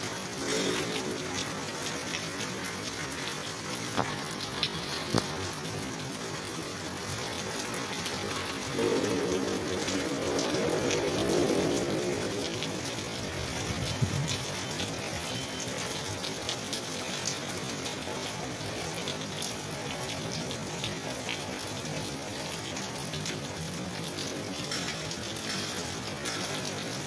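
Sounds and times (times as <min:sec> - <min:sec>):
rain hissing: 0:00.0 - 0:27.0
raindrops ticking on surfaces: 0:00.0 - 0:27.0.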